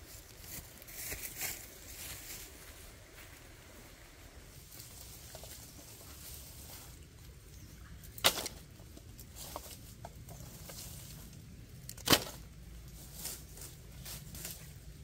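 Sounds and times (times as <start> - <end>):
twigs and leaves crackling: 0.0 - 15.0.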